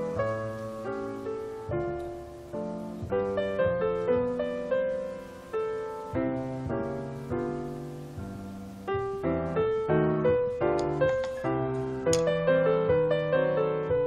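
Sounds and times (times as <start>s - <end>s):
background piano music: 0.0s - 14.0s.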